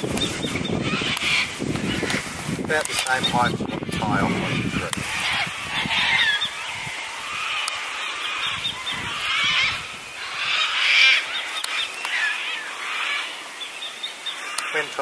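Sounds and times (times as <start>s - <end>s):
birds squawking and chirping: 0.0s - 15.0s.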